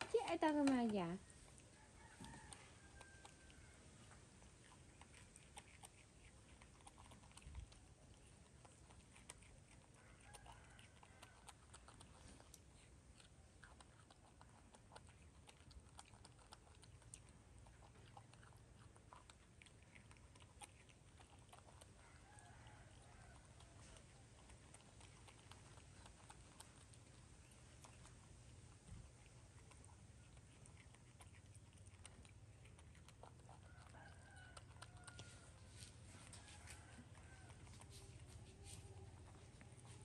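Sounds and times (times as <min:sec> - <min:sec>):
monkeys chewing and crunching: 0:00.0 - 0:40.0.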